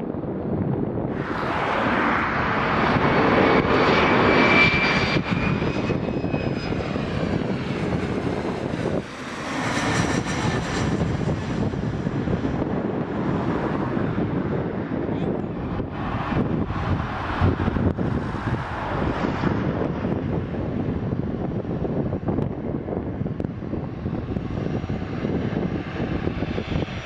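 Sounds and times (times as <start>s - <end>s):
jet engines roaring with high whine: 0.0s - 27.0s.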